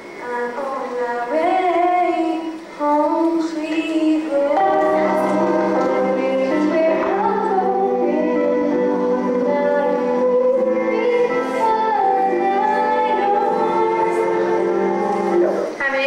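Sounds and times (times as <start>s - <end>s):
musical accompaniment: 0.0s - 16.0s
girl singing: 0.2s - 15.3s.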